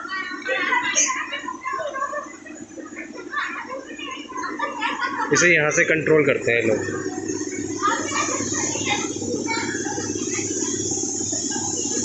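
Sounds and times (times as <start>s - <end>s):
faint scattered voices: 0.0s - 12.0s
ride machine hum with flutter: 0.0s - 12.0s.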